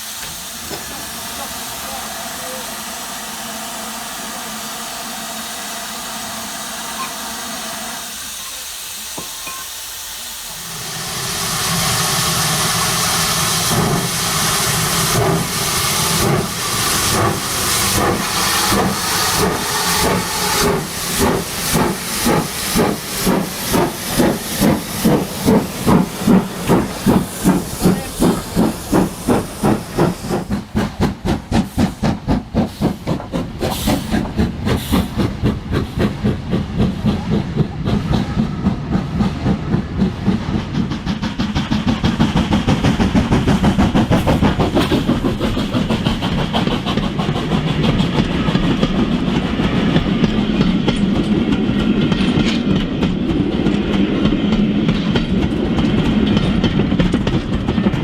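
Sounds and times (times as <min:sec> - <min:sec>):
steam hiss: 0:00.0 - 0:57.8
model locomotive chuffing: 0:00.0 - 0:58.0.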